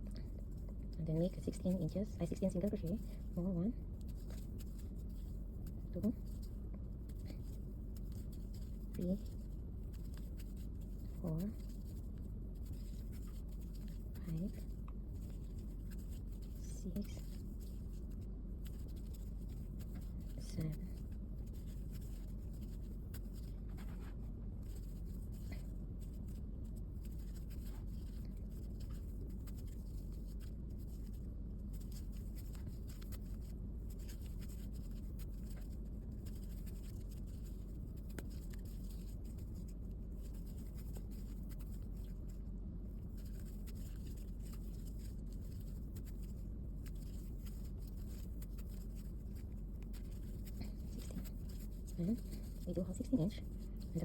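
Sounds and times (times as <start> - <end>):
crochet hook rustling yarn: 0.0 - 54.0
low hum: 0.0 - 54.0.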